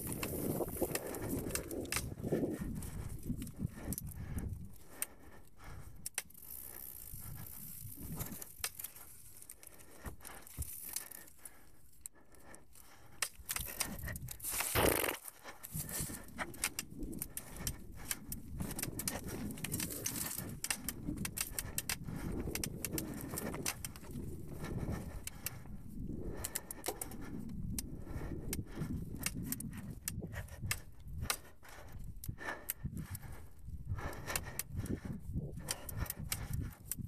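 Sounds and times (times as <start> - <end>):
bike rattling and clicking: 0.0 - 37.0.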